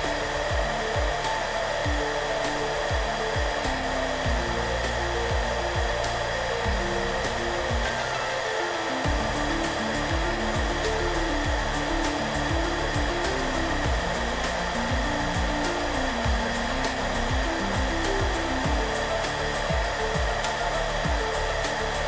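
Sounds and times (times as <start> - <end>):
hair dryer running: 0.0 - 22.0
soft music with beat: 0.0 - 22.0.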